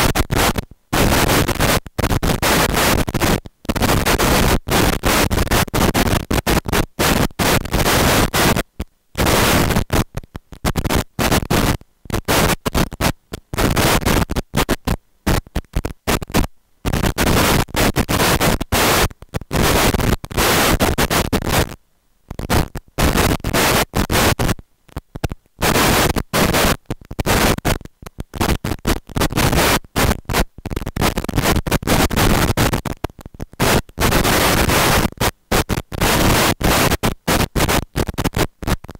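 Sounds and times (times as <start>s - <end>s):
harsh static bursts: 0.0s - 38.9s.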